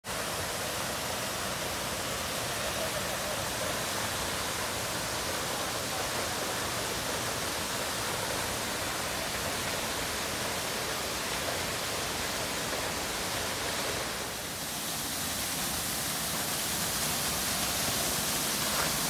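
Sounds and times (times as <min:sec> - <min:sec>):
waterfall splashing onto rocks: 0:00.0 - 0:19.0.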